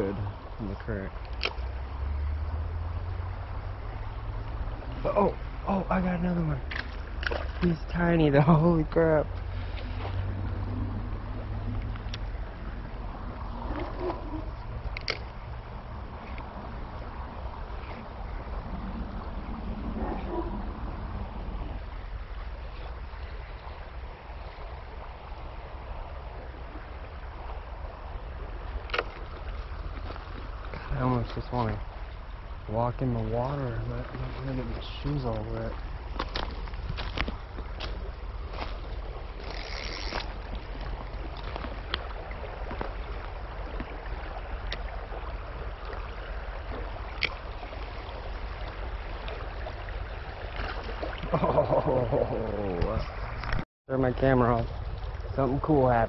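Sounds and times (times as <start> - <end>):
river water rushing: 0.0 - 56.0
wind rumble on microphone: 0.0 - 56.0.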